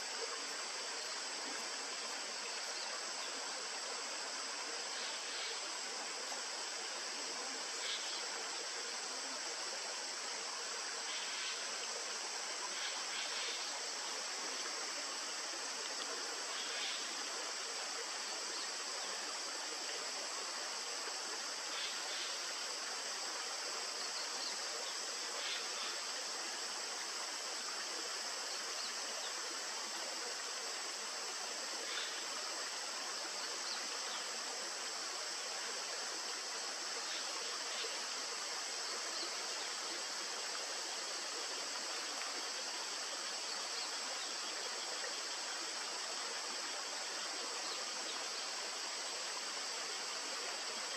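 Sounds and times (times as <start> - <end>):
high-pitched hiss: 0.0 - 50.9.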